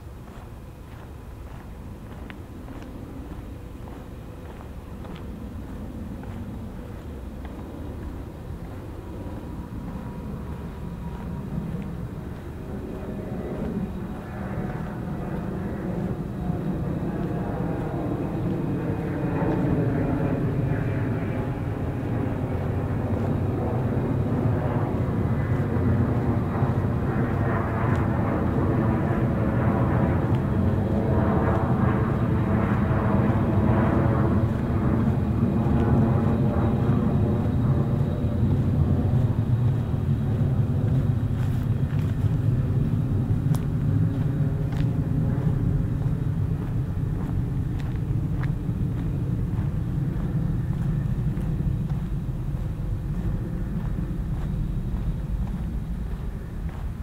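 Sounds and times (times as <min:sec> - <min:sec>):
aircraft engine drone: 0:00.0 - 0:57.0.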